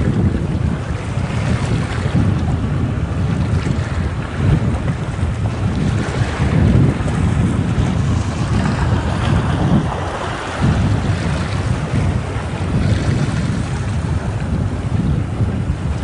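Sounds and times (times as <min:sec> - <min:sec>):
ocean waves washing against rocks: 0:00.0 - 0:16.0
wind rumble on microphone: 0:00.0 - 0:16.0.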